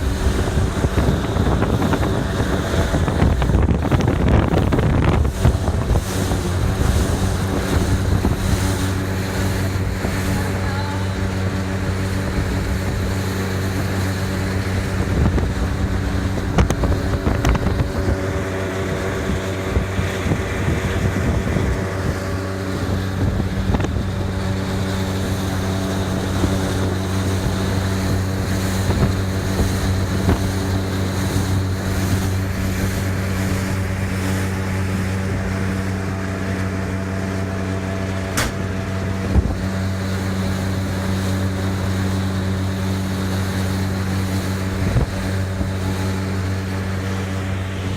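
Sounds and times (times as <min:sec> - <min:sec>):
motorboat engine running: 0:00.0 - 0:47.9
rushing water: 0:00.0 - 0:47.9
wind noise: 0:00.0 - 0:47.9.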